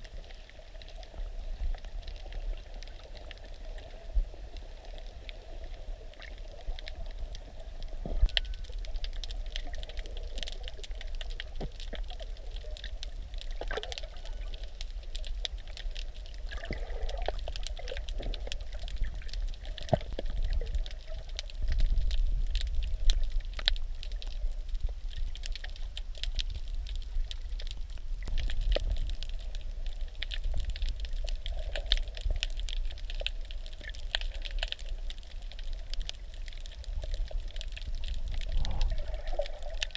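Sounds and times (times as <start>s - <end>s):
bubbly gurgles: 0.0s - 39.9s
muffled rumble of moving water: 0.0s - 39.9s
underwater crackle of tiny clicks: 0.0s - 39.9s.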